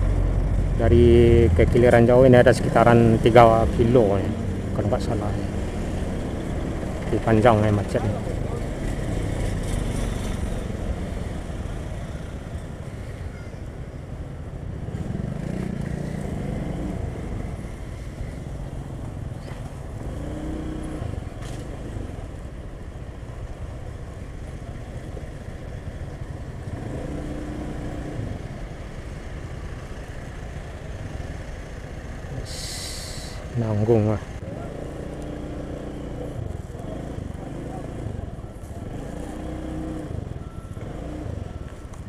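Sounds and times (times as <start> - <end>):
truck engine tones: 0.0 - 42.0.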